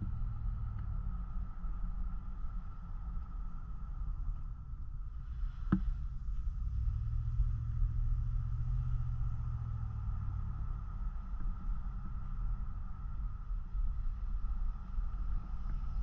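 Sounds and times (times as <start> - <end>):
truck engine and tyres rumbling: 0.0 - 16.0.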